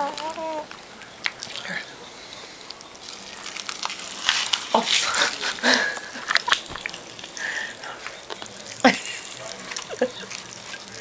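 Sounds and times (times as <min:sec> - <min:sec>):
popping candy crackling: 0:00.0 - 0:11.0.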